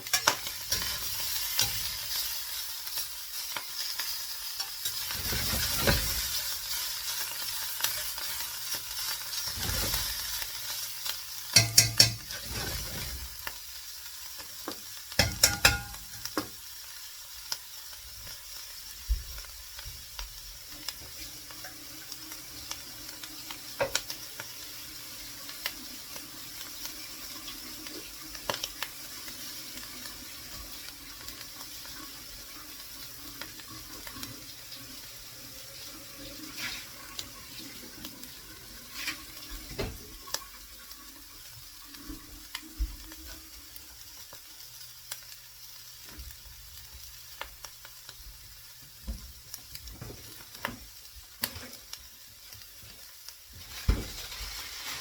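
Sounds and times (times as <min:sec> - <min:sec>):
omelette sizzling in a frying pan: 0:00.0 - 0:55.0.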